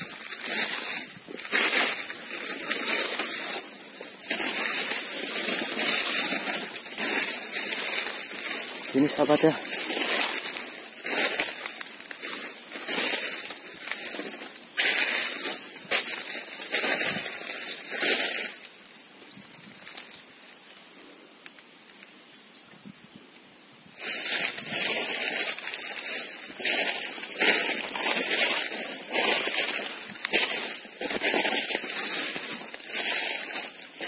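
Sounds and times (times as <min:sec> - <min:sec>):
footsteps crunching dry leaves: 0:00.0 - 0:20.8, 0:24.0 - 0:34.0.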